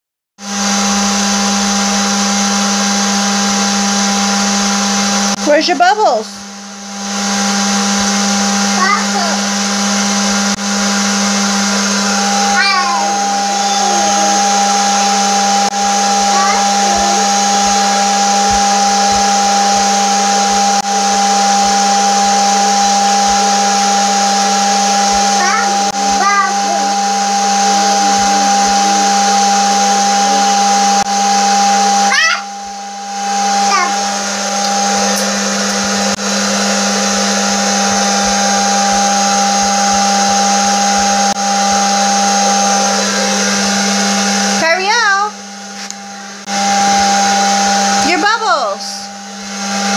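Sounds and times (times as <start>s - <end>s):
small fan motor humming: 0.5s - 49.9s.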